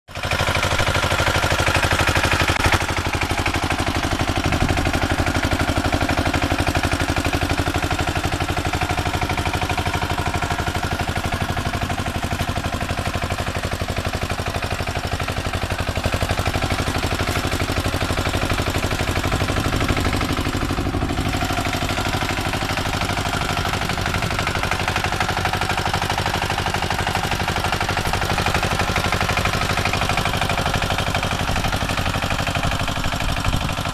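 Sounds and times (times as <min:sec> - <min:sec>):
tiller diesel engine chugging: 0:00.1 - 0:33.9.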